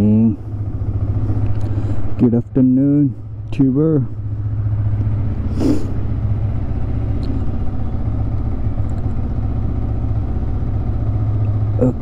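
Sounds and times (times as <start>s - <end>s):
motorcycle engine idling high: 0.0s - 12.0s.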